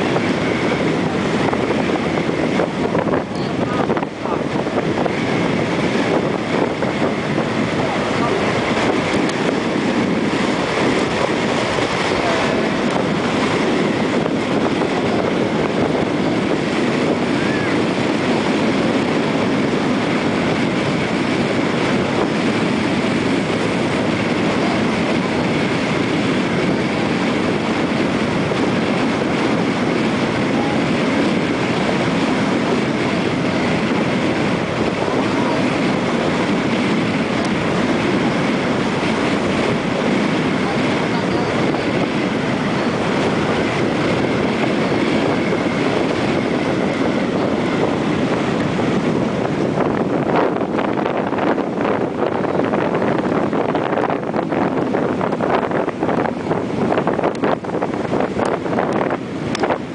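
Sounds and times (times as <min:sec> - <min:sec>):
ferry engine rumble: 0:00.0 - 0:59.9
rushing water: 0:00.0 - 0:59.9
wind buffeting microphone: 0:00.0 - 0:59.9.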